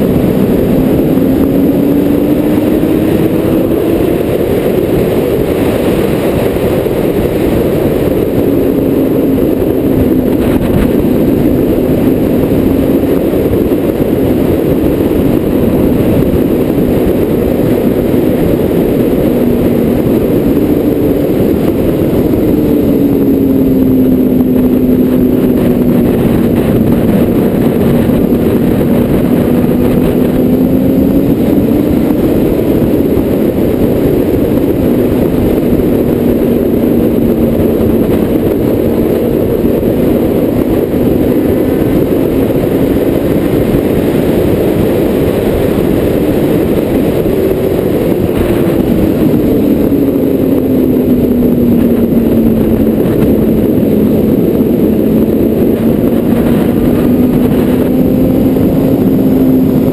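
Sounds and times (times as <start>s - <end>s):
engine note rising and falling: 0.0s - 59.9s
road and wind rumble: 0.0s - 59.9s.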